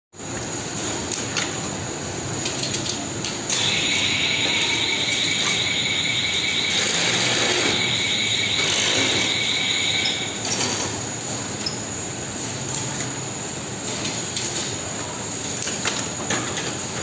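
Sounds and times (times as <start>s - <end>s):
machine high-pitched whine: 0.2s - 17.0s
workshop noise: 0.2s - 17.0s.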